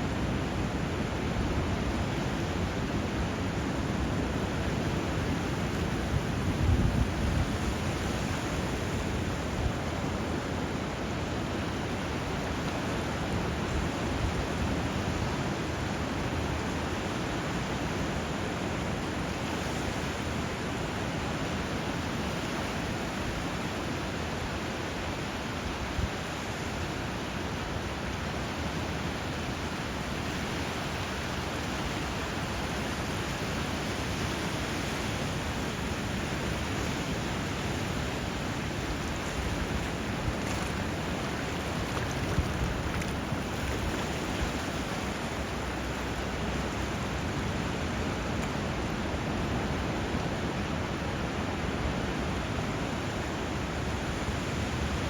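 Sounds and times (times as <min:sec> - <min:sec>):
flowing water rushing: 0:07.4 - 0:55.0.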